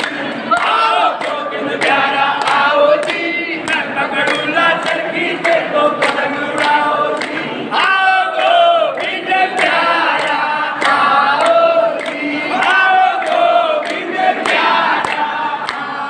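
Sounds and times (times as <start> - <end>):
crowd singing devotional song: 0.0 - 16.0
hand-clapping in time: 0.0 - 16.0.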